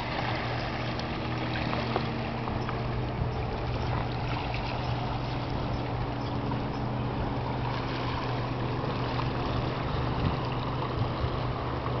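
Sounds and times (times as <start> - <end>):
low engine hum: 0.0 - 12.0
waves on a pebble shore: 0.0 - 12.0.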